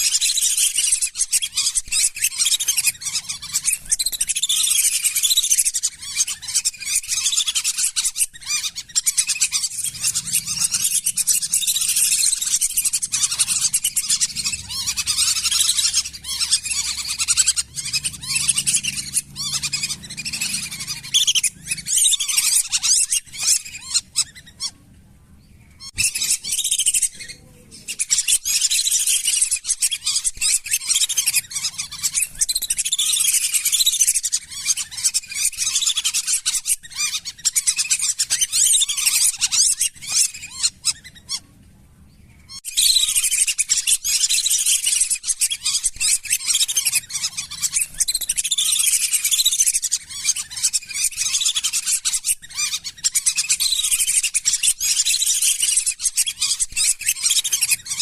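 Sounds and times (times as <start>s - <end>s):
ducks whistling and chirping: 0.0s - 24.9s, 25.5s - 41.6s, 42.2s - 58.0s.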